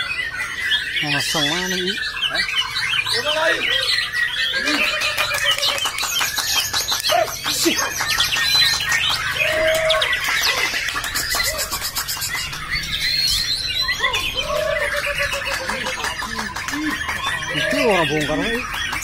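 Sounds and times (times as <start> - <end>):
bird singing whistles and trills: 0.0 - 19.0
caged birds calling: 0.0 - 19.0.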